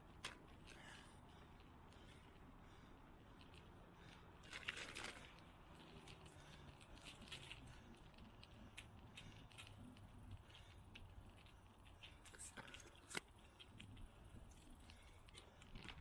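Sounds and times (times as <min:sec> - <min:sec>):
faint clicks and crackles: 0:00.0 - 0:16.0.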